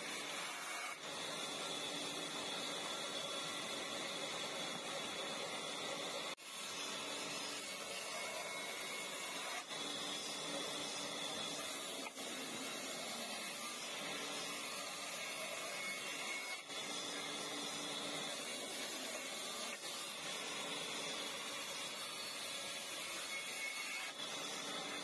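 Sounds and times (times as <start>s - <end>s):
bandsaw rasping through log: 0.0s - 4.0s, 6.4s - 25.0s.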